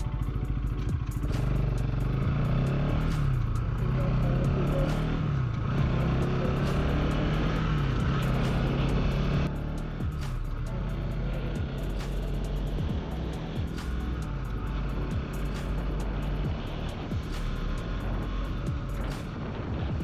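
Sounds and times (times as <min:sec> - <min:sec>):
motorcycle engine revving while riding: 0:00.0 - 0:20.0.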